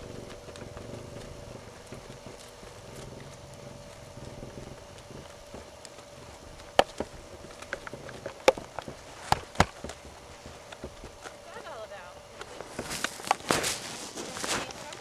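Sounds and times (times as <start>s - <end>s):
hooves cantering on soft ground: 0.0s - 15.0s.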